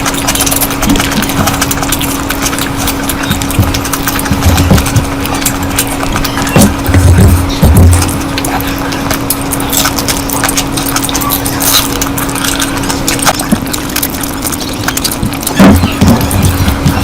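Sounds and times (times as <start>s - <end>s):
steady low hum: 0.0s - 17.0s
wet chewing: 0.0s - 17.0s.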